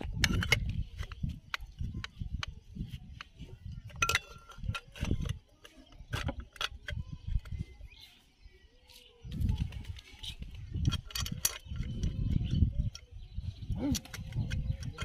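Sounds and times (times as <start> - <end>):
metal parts and tools clinking: 0.0 - 7.7, 10.0 - 15.0.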